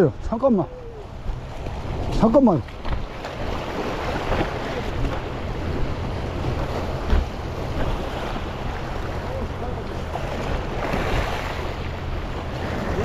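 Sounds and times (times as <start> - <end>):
waves splashing over rock: 1.2 - 13.0.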